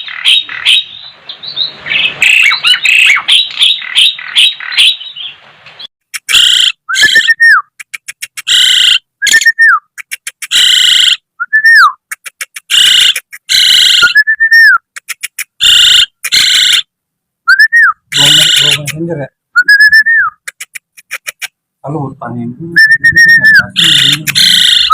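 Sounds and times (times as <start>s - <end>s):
starling calling: 0.0s - 16.9s, 17.5s - 19.0s, 19.6s - 21.5s, 22.8s - 24.9s.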